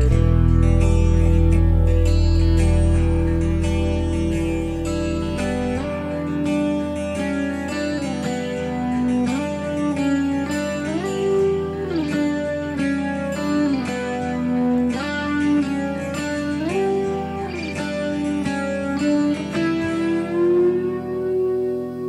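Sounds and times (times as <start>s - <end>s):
guitar strumming: 0.0s - 22.0s
slide guitar: 0.0s - 22.0s.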